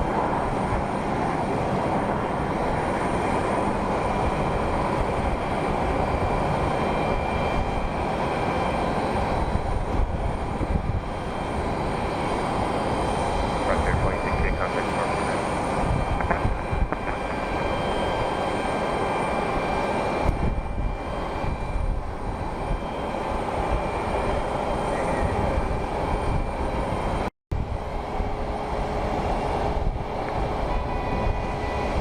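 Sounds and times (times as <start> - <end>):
jet engines running: 0.0 - 32.0.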